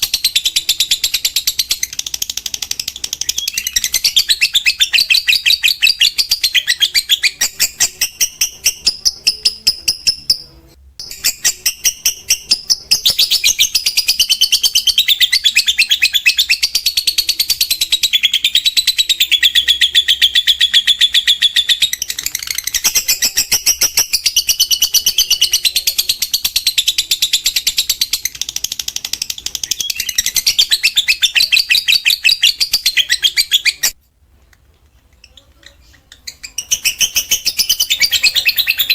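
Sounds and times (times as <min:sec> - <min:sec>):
lovebird chattering: 0:00.0 - 0:34.0, 0:35.2 - 0:38.9.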